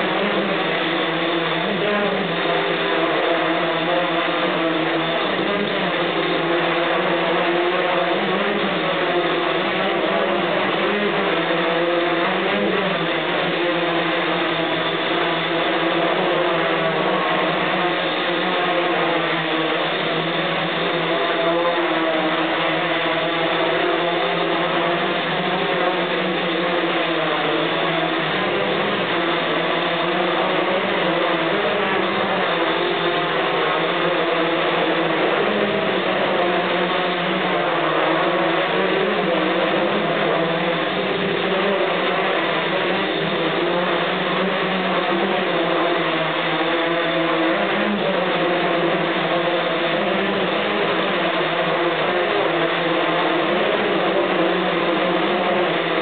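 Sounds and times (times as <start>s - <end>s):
drone propellers buzzing whine: 0.0s - 56.0s.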